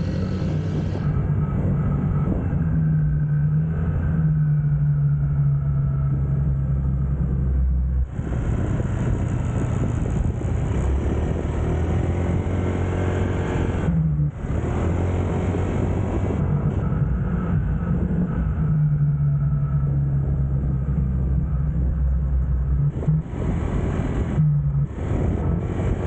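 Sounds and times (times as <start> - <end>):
road and wind noise: 0.0 - 26.0.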